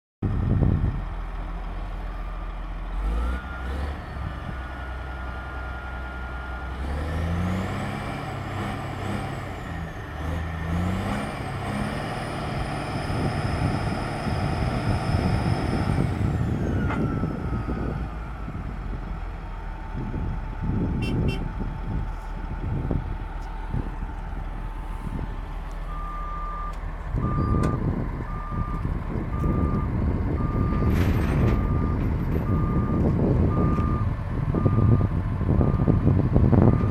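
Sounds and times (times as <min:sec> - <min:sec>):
bulldozer diesel engine revving: 0:00.3 - 0:36.9.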